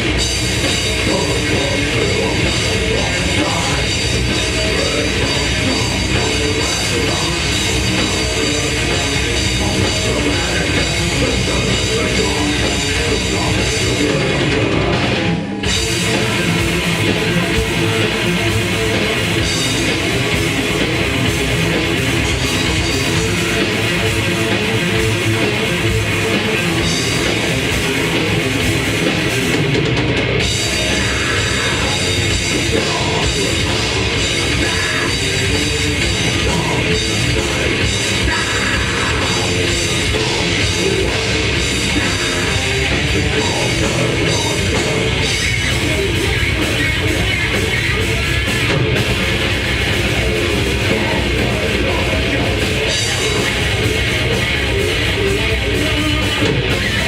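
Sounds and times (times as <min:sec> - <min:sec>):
distorted electric guitars: 0:00.0 - 0:57.0
fast drum kit playing: 0:00.0 - 0:57.0.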